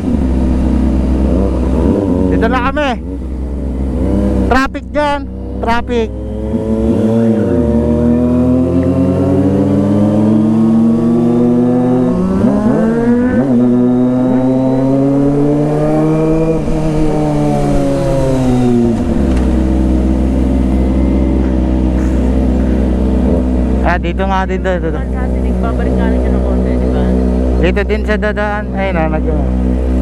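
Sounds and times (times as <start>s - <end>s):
motorcycle engine running: 0.0s - 30.0s
passing vehicle engines: 0.0s - 30.0s.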